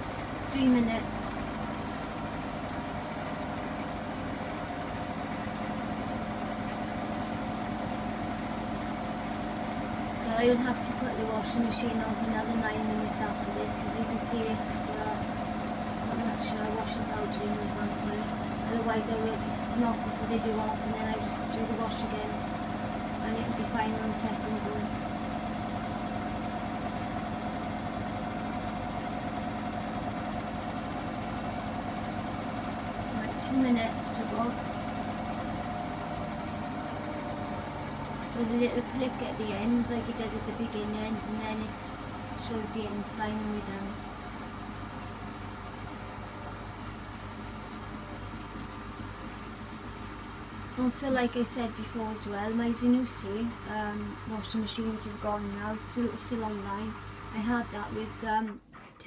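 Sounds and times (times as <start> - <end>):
washing machine drum spinning: 0.0 - 49.4.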